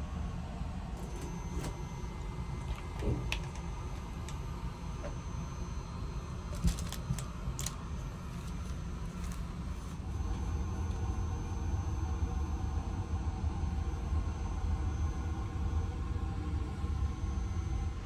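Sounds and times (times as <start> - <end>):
air-conditioning rumble: 0.0 - 18.0.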